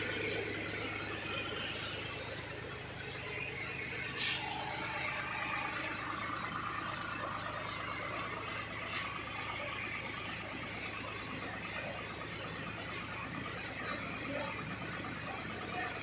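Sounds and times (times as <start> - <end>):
small diesel engine idling: 0.0 - 16.0.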